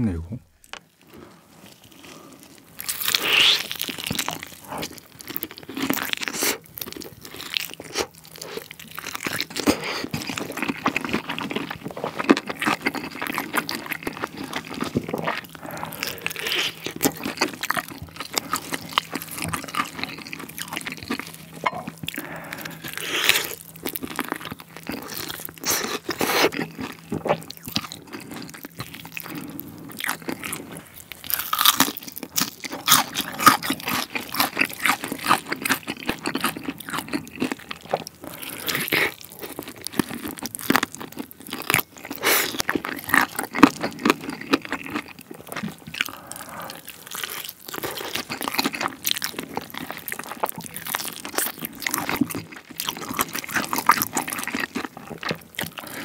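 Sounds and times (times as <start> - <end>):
crunchy bites and chewing: 0.6 - 56.0.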